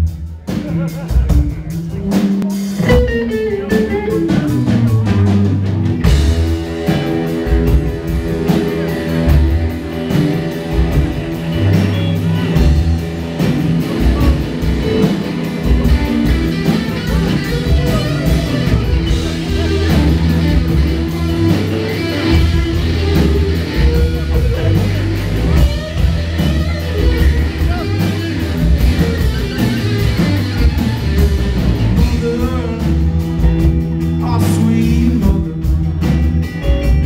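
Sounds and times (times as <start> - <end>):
falling guitar line: 0.0 - 37.0
live rock band playing: 0.0 - 37.0.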